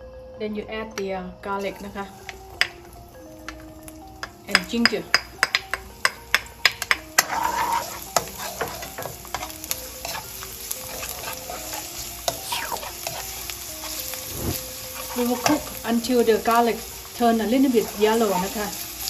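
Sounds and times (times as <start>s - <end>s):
garlic sizzling in oil: 1.5s - 19.0s
utensil tapping and scraping wok: 1.6s - 19.0s.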